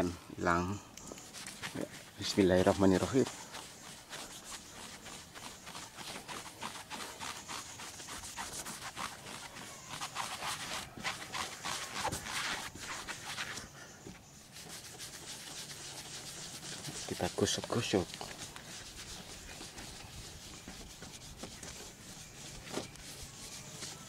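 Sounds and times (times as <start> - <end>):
foam pad scuffing plastic: 1.3 - 13.6, 14.6 - 24.0.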